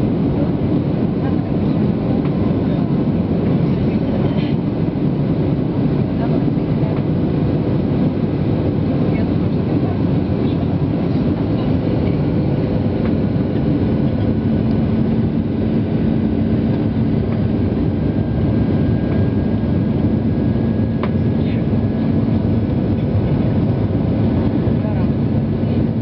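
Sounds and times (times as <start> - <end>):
jet engines in cabin: 0.0 - 26.0.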